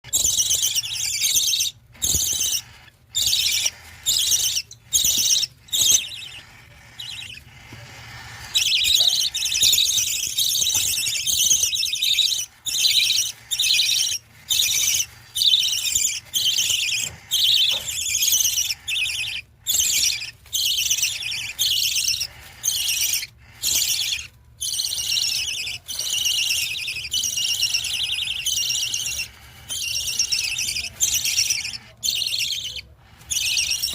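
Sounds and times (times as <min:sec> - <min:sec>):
budgie chicks chirping: 0:00.0 - 0:33.9.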